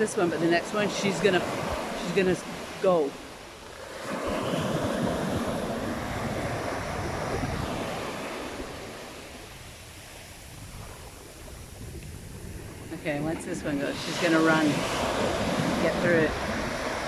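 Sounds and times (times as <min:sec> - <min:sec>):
ocean wave breaking on beach: 0:00.0 - 0:17.0.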